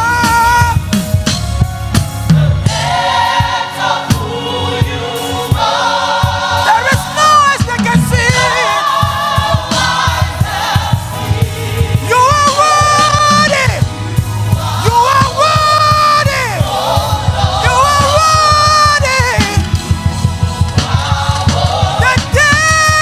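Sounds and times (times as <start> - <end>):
gospel choir singing: 0.0 - 23.0
instrumental backing with steady beat: 0.0 - 23.0.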